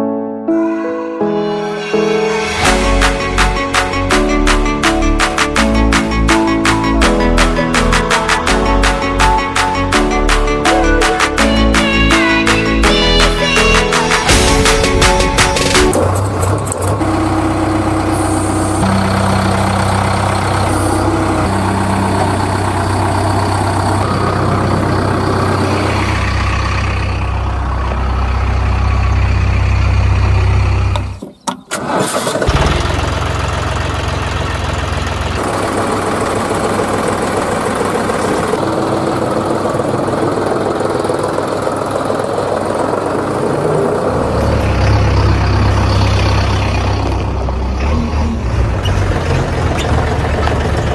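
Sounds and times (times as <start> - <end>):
heavy vehicle engines idling: 2.6 - 31.2, 32.6 - 50.9.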